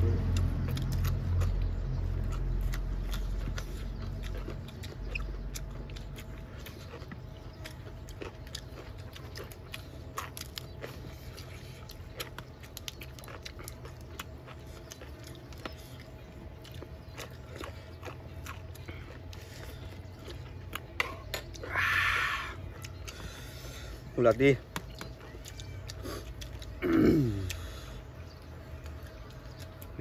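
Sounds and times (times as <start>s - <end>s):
close-up chewing: 0.0s - 30.0s
low steady hum: 0.0s - 30.0s.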